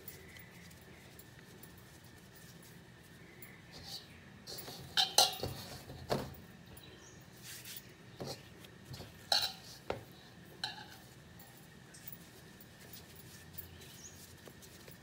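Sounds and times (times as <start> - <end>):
hands kneading dough: 0.0 - 6.2, 7.3 - 15.0.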